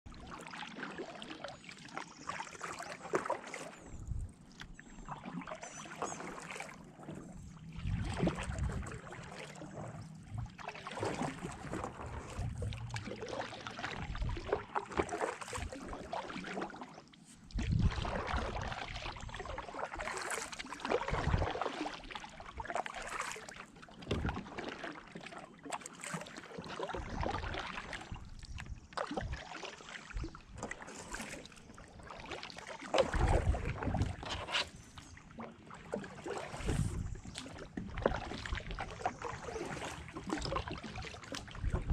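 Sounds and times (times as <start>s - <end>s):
paddle splashing in water: 0.1s - 41.9s.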